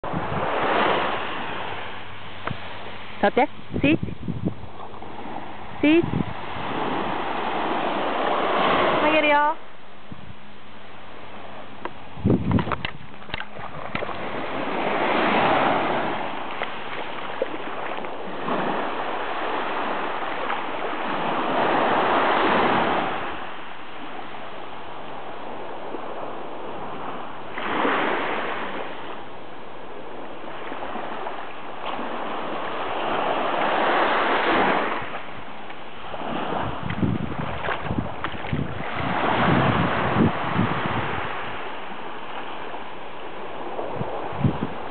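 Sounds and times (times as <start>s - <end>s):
small waves on sandy shore: 0.0s - 44.9s.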